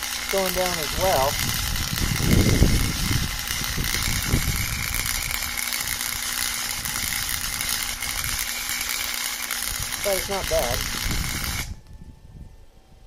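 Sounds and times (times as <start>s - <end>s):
welding arc crackling: 0.0s - 11.9s.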